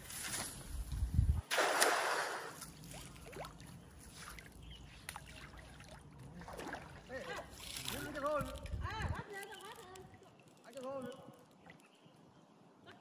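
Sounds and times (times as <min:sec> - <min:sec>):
water splashing and sloshing: 0:00.0 - 0:11.9.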